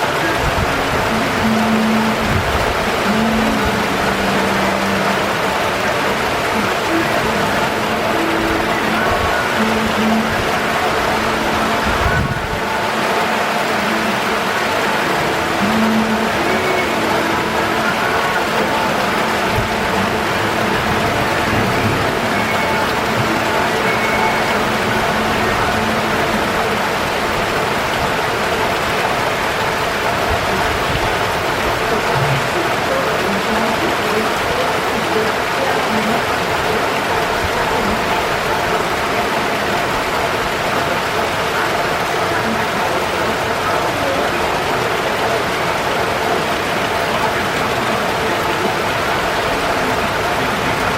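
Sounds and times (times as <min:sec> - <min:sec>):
heavy rain on hard surfaces: 0:00.0 - 0:50.9.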